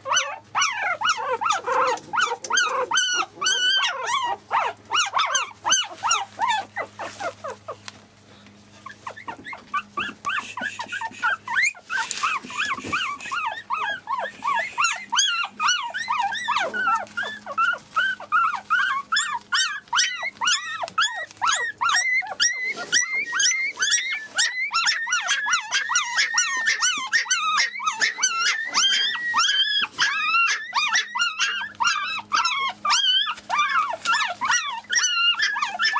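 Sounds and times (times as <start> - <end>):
puppies whimpering and squeaking: 0.0 - 35.9.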